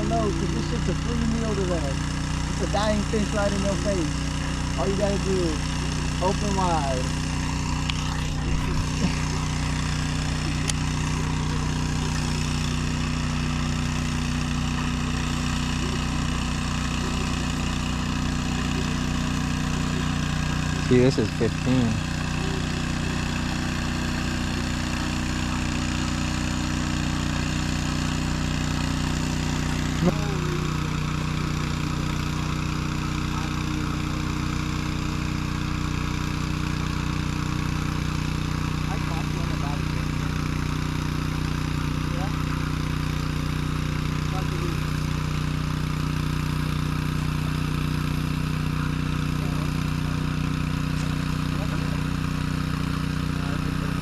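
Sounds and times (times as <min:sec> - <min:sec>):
boat motor humming: 0:00.0 - 0:54.0.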